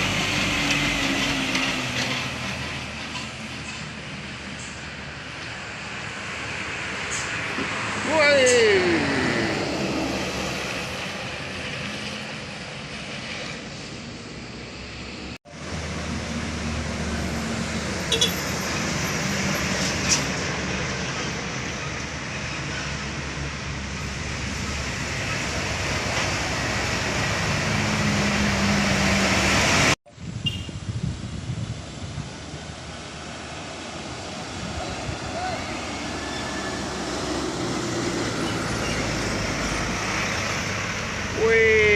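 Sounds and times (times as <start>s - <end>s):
diesel trucks climbing: 0.0s - 30.2s, 31.8s - 41.9s
traffic noise: 0.0s - 41.9s.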